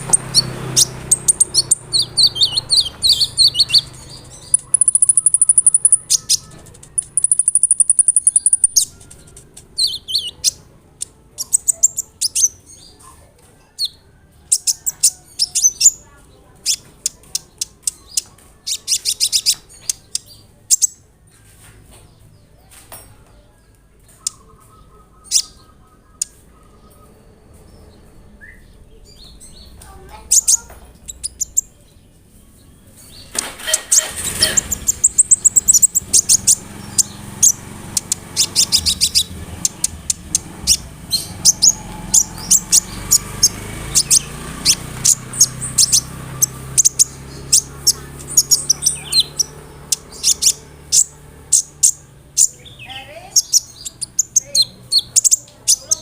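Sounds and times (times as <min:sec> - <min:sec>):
bird singing high chirps and trills: 0:00.0 - 0:56.0.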